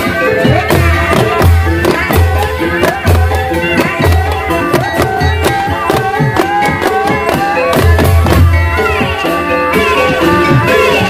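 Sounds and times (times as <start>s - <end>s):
hand drums striking: 0.0s - 11.0s.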